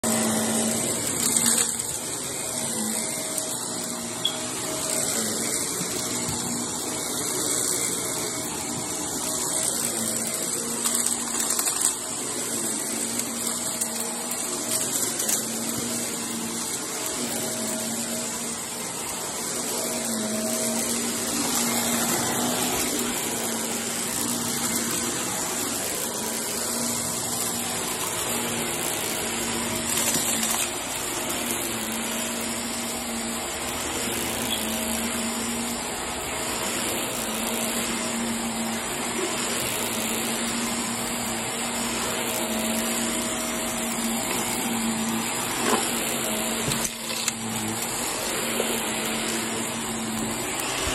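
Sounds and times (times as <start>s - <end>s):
vacuum cleaner running on carpet: 0.0s - 50.9s.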